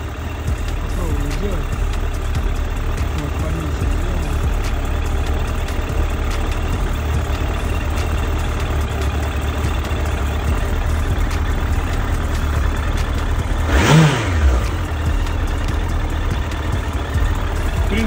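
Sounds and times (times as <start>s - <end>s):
engine throttle blip: 0.0s - 18.0s
motorcycle engine idling: 0.0s - 18.0s.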